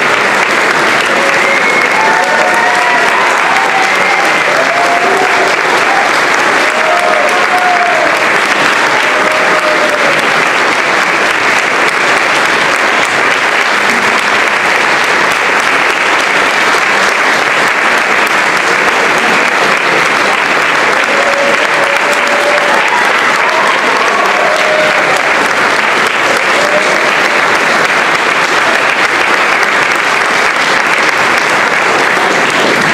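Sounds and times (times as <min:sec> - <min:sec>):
large audience applauding: 0:00.0 - 0:32.9.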